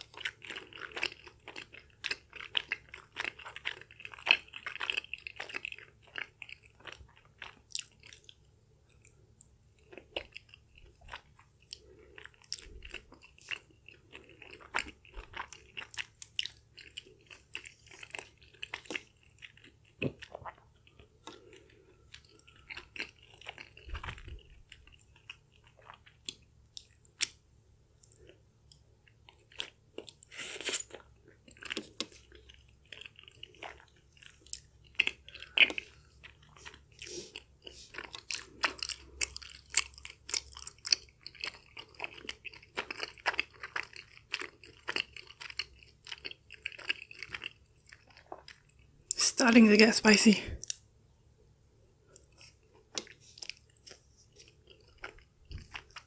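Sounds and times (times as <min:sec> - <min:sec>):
chewing with wet mouth smacks: 0:00.0 - 0:49.2, 0:52.1 - 0:56.0.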